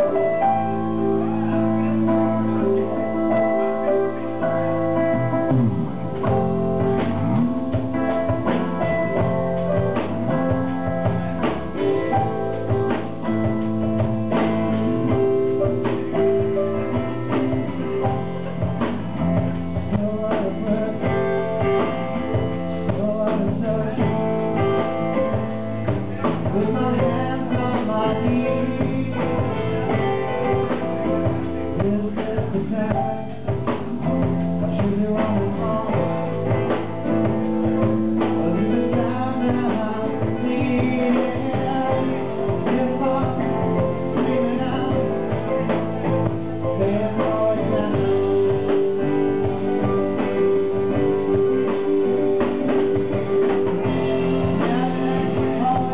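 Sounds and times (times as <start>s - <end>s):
live band playing: 0.0s - 55.9s
man singing: 0.0s - 55.9s.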